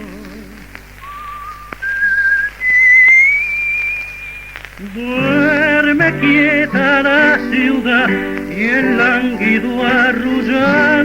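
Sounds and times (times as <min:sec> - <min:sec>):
whistling on old record: 0:00.0 - 0:11.0.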